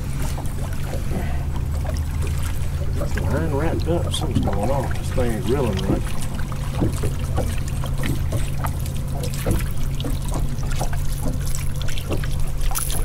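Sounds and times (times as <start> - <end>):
outboard motor humming: 0.0 - 13.0
water lapping against hull: 0.0 - 13.0.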